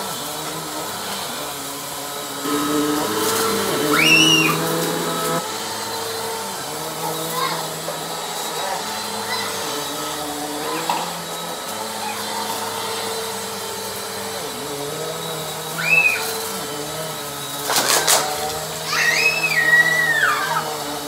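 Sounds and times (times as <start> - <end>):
upright vacuum running: 0.0 - 21.0.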